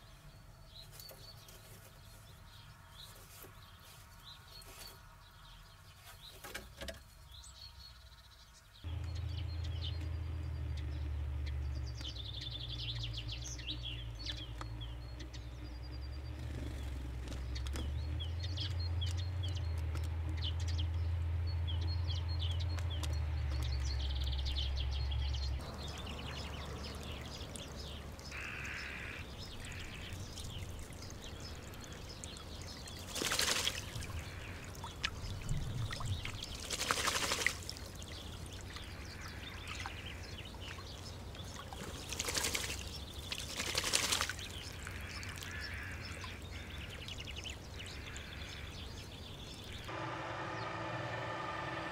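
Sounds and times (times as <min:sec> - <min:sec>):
small birds chirping: 0:00.0 - 0:51.2
birds splashing water: 0:00.0 - 0:51.9.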